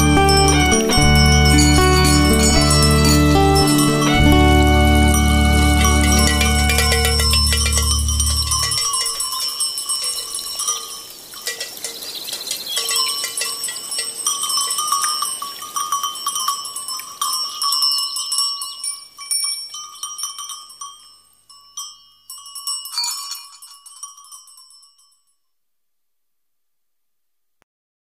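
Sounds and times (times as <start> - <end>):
livestock bells clanking: 0.0 - 25.4.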